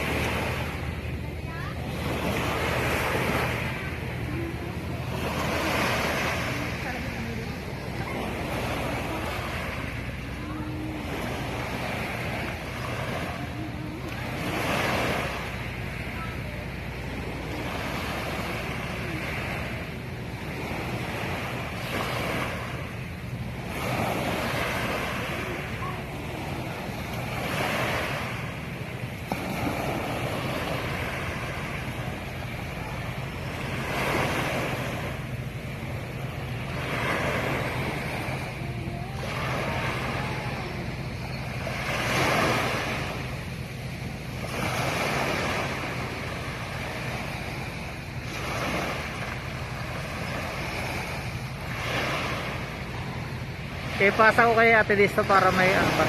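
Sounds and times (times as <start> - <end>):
sea waves washing in: 0.0 - 56.0
steady low hum: 0.0 - 56.0.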